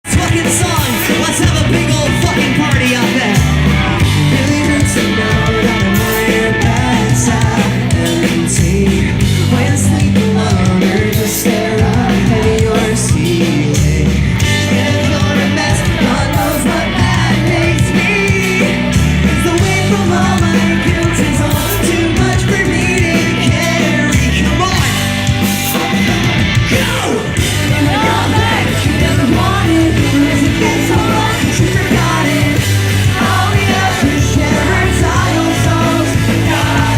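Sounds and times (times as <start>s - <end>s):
pop-punk band playing: 0.0s - 36.9s
vocalist singing: 0.0s - 36.9s.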